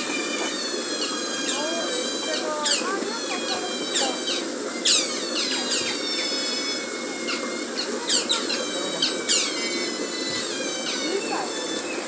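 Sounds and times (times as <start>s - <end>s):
otters squeaky chirps: 0.0s - 12.0s.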